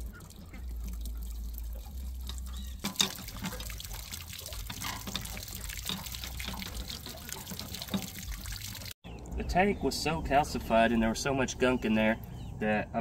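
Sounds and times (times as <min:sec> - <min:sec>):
water dripping and trickling: 0:00.0 - 0:12.5.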